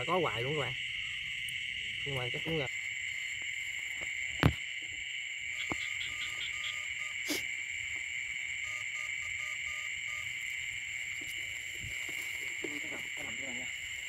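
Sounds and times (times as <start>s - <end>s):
frogs calling: 0.0s - 14.0s
insects calling: 0.0s - 14.0s.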